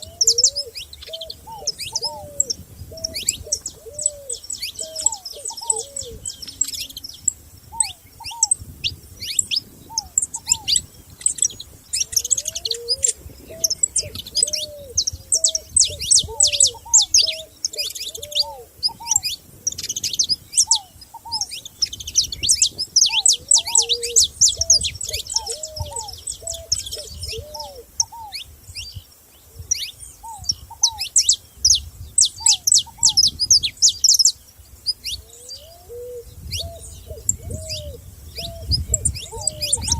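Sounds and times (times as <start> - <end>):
low repeated bird call: 0.0 - 39.9
songbirds chirping and trilling: 0.0 - 39.9.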